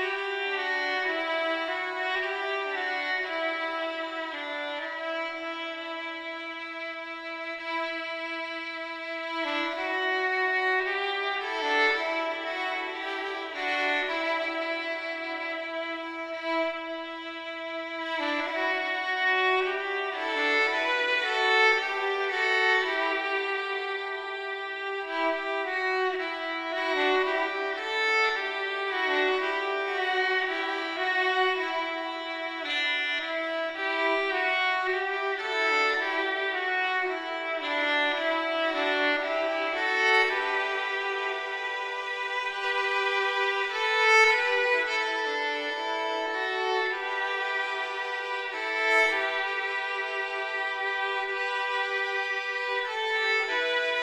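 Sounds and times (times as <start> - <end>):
solo violin melody: 0.0 - 54.0.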